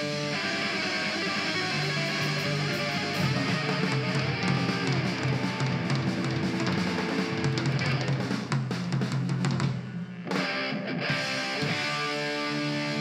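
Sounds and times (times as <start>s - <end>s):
drum kit: 0.0s - 13.0s
rock band playing: 0.0s - 13.0s.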